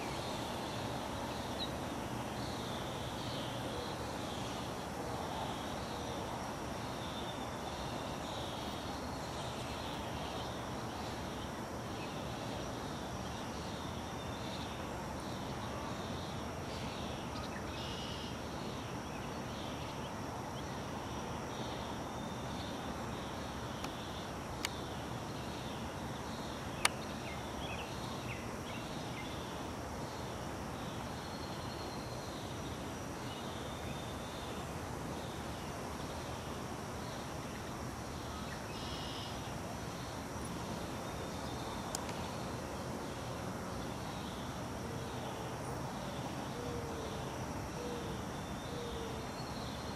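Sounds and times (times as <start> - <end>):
outdoor hiss: 0.0 - 49.9
songbirds chirping: 0.0 - 49.9.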